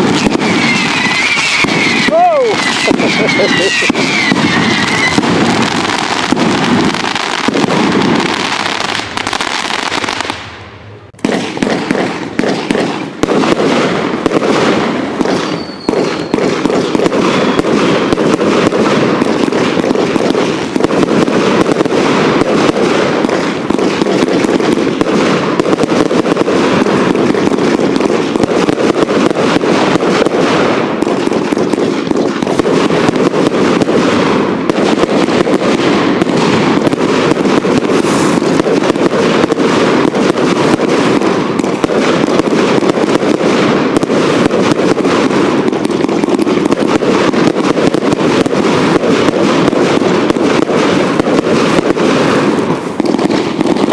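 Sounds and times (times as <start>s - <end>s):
fireworks bangs and crackle: 0.0s - 53.9s.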